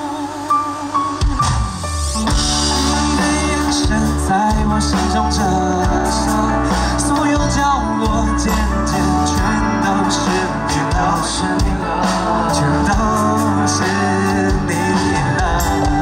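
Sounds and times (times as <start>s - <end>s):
deep bass notes: 0.0s - 16.0s
live rock band playing: 0.0s - 16.0s
male singer singing: 2.2s - 16.0s.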